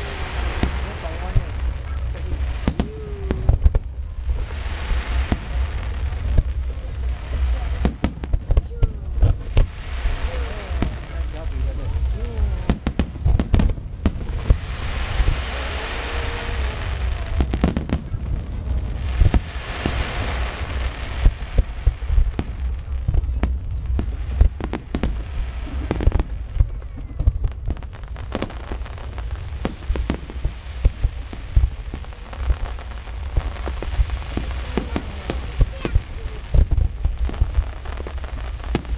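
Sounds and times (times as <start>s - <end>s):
fireworks bangs: 0.0s - 38.9s
fireworks crackling hiss: 0.0s - 38.9s.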